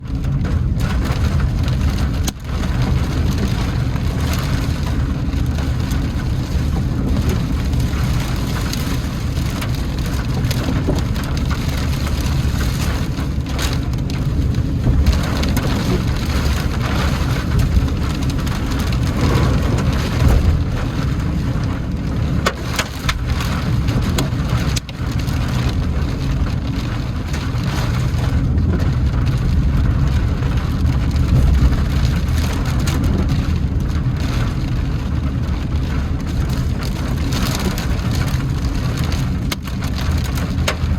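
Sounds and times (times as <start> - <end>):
heavy rain beating on a car: 0.0 - 40.9
low car rumble: 0.0 - 40.9.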